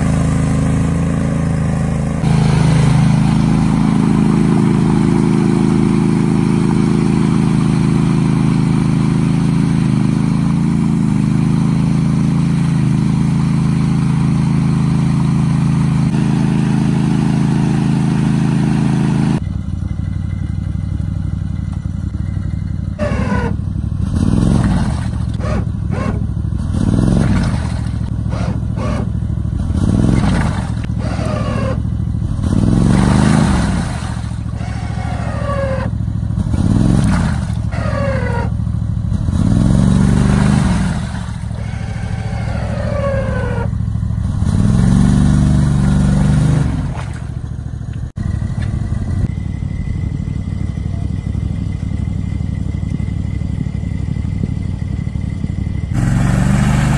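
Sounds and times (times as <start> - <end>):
atv engine revving: 0.0 - 19.5, 22.2 - 56.9.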